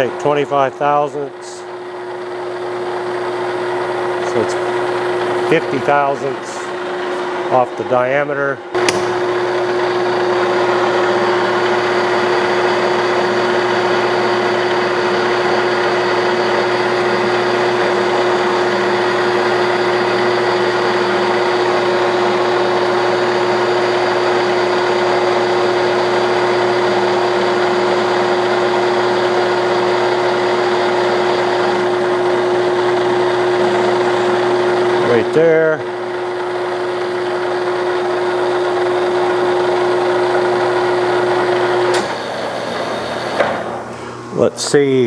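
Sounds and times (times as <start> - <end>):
lathe humming: 0.0 - 45.0.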